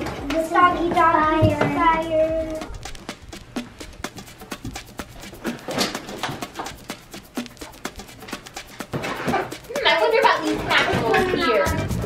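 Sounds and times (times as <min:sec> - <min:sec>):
music with percussive beat: 0:00.0 - 0:12.0.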